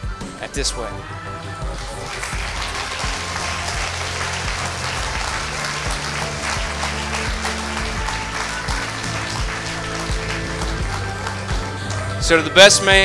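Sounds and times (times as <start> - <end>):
background music: 0.0 - 13.0
crowd applauding: 1.3 - 13.0.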